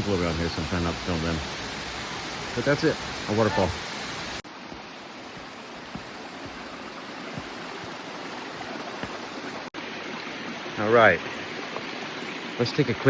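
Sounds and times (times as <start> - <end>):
water rushing and falling: 0.0 - 13.0.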